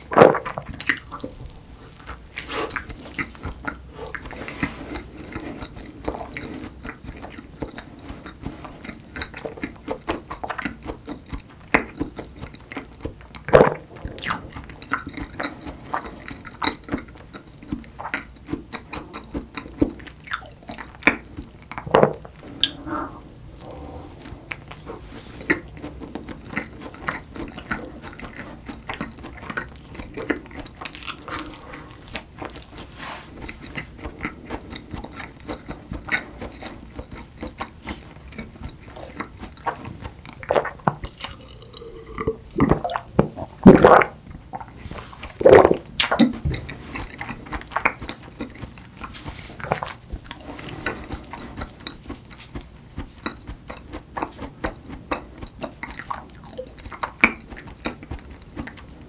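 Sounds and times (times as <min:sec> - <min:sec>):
chewing with wet mouth clicks: 0:00.0 - 0:59.0.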